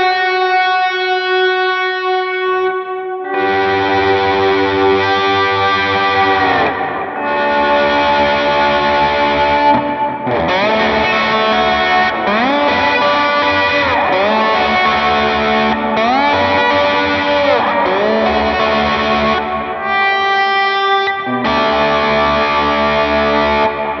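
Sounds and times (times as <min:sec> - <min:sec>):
overdriven slide electric guitar: 0:00.0 - 0:24.0.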